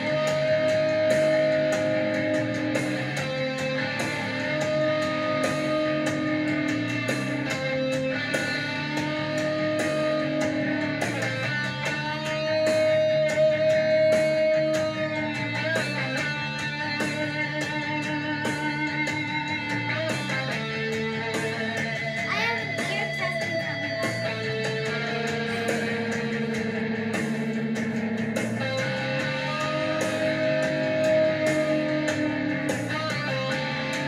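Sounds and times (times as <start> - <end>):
drum and cymbal hits: 0.0 - 34.0
electric guitar: 0.0 - 34.0
rock music: 0.0 - 34.0.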